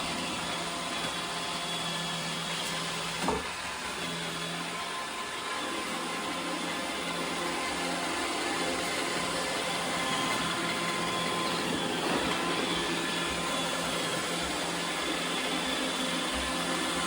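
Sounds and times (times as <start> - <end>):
robot vacuum running: 0.0 - 17.0.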